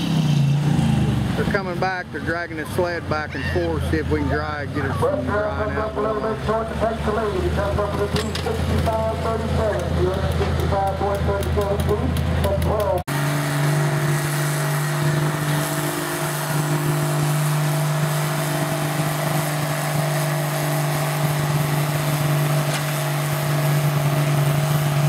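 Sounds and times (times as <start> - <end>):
tractor engine running: 0.4 - 25.0.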